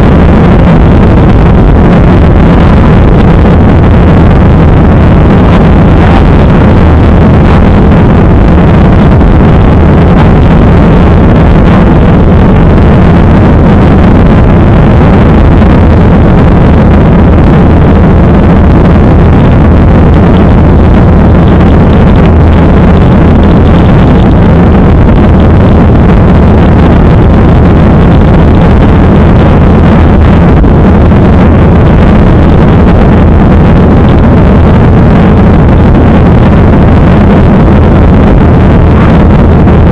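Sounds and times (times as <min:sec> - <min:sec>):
jet airliner cabin noise: 0:00.0 - 0:39.9
low steady hum: 0:00.0 - 0:39.9.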